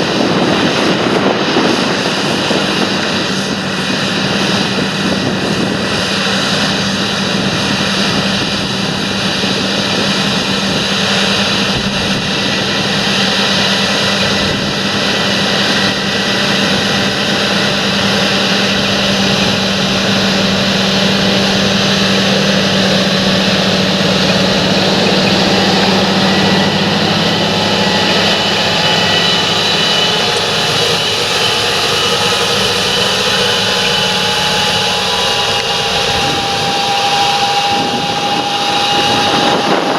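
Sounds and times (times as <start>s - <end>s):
tractor engine drone: 0.0s - 39.9s.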